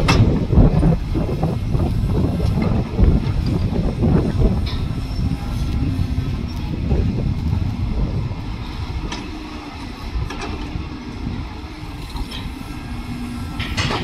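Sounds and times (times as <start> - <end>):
heavy machinery engine rumble: 0.0 - 14.0.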